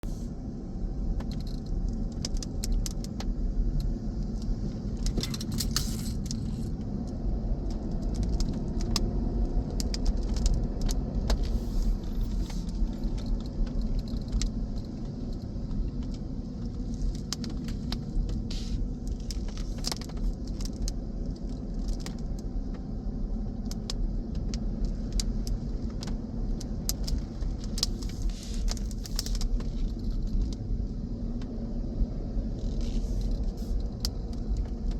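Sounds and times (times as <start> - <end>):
car road rumble: 0.0 - 34.9.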